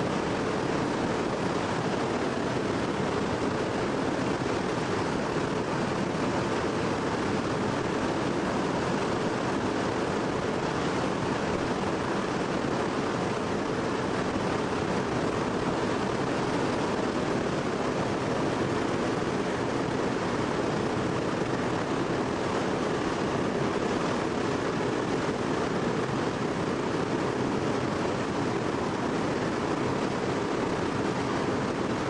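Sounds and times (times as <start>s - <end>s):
rushing airflow: 0.0s - 32.0s.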